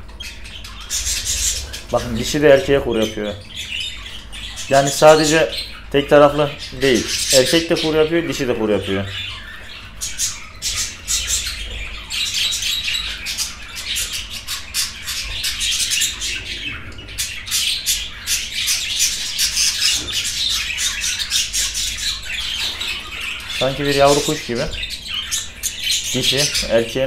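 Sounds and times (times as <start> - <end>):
budgerigars chirping and squawking: 0.0 - 27.0.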